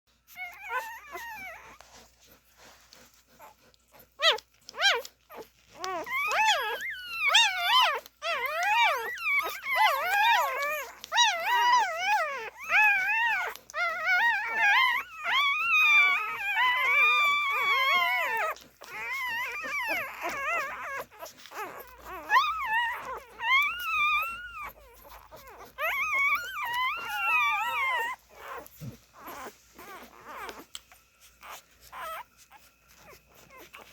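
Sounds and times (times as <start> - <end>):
puppies whimpering and squealing: 0.1 - 33.9.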